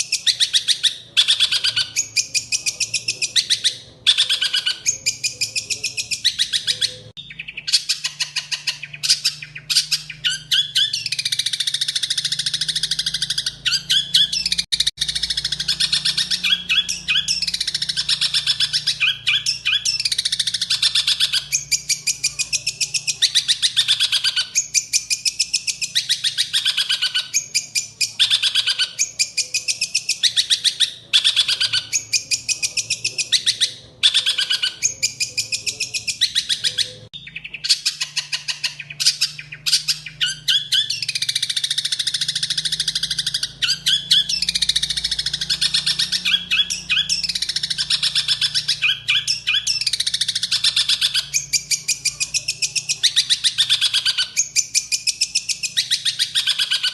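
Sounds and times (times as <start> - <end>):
songbird singing: 0.0 - 56.9.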